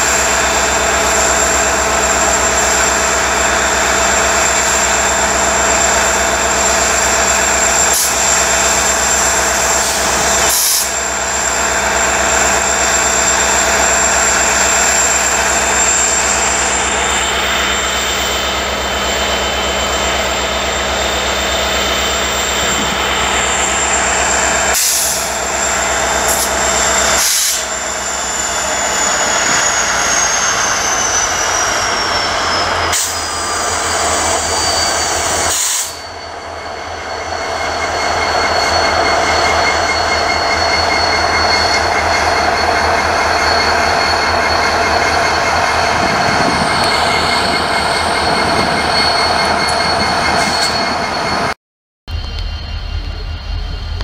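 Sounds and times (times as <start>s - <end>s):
high-pitched whine: 0.0s - 54.0s
locomotive diesel engine running: 0.0s - 54.0s.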